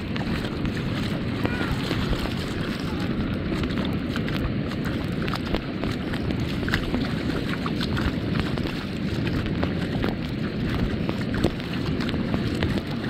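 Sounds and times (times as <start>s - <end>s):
feet splashing in water: 0.0s - 13.0s
wind buffeting microphone: 0.0s - 13.0s.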